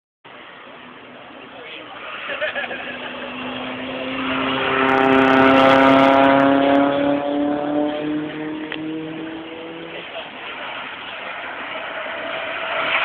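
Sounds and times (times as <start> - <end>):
car engine driving past: 2.0 - 13.0.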